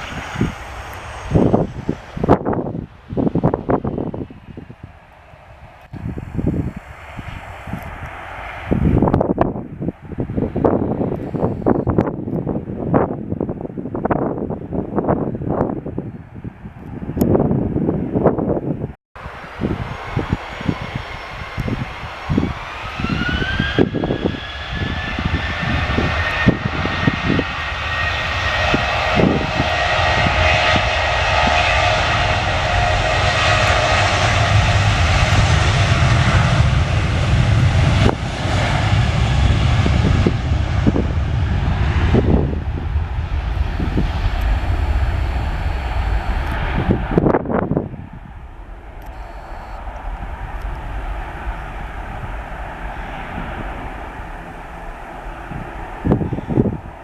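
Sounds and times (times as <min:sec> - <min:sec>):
jet engines whining and rumbling: 0:00.0 - 0:57.0.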